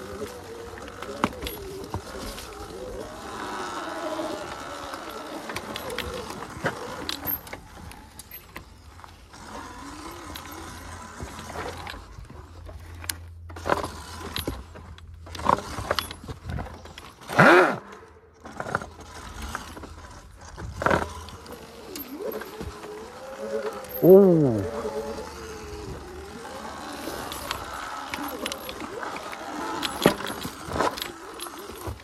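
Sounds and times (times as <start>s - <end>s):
electric motor whining: 0.0s - 16.0s, 17.2s - 32.0s.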